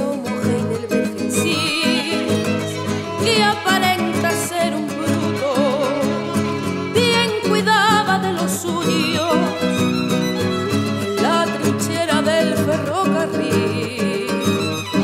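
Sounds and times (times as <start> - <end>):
acoustic guitar: 0.0 - 15.0
violin: 0.0 - 15.0
woman singing: 0.0 - 15.0.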